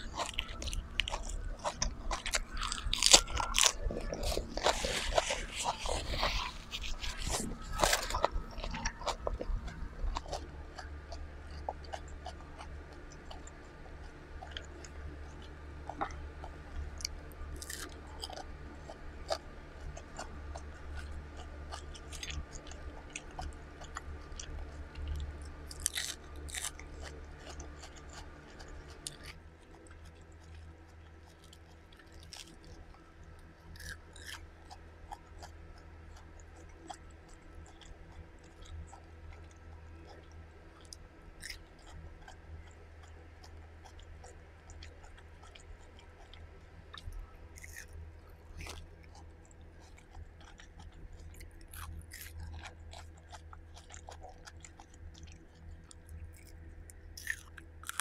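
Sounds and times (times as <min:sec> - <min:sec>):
chewing and biting food: 0:00.0 - 0:58.0
sharp crunches and clicks: 0:00.0 - 0:58.0
steady low hum: 0:00.0 - 0:58.0.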